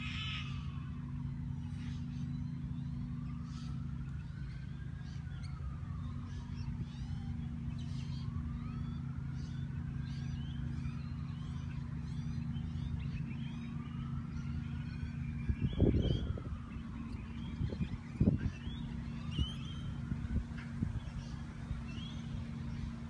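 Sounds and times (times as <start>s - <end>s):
birds chirping: 0.0s - 23.0s
siren wailing: 0.0s - 23.0s
steady low hum: 0.0s - 23.0s.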